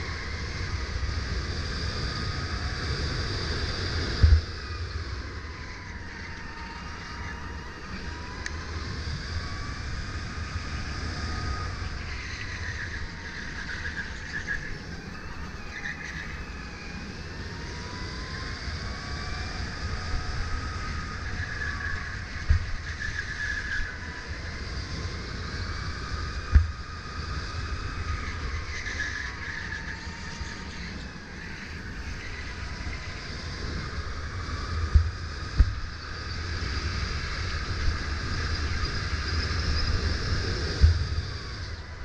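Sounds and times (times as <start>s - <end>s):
electric motor whine: 0.0s - 42.0s
rumble of tyres and wind: 0.0s - 42.0s.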